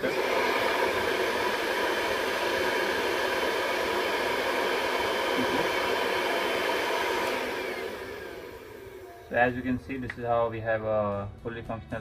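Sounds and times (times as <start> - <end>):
vacuum motor running: 0.0 - 9.8.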